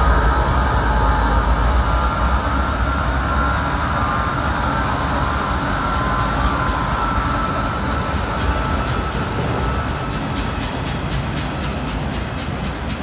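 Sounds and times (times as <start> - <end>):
freight locomotives rumbling past: 0.0 - 13.0.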